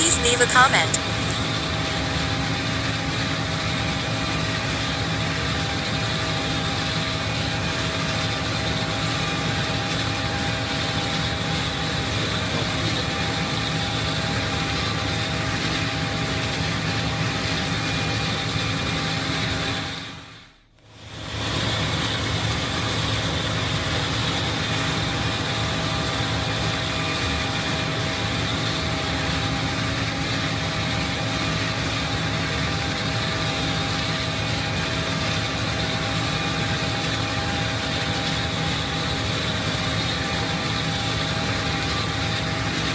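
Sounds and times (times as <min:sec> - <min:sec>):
combine harvester engine drone: 0:00.0 - 0:20.3, 0:21.0 - 0:42.9
high steady machine whine: 0:00.0 - 0:42.9.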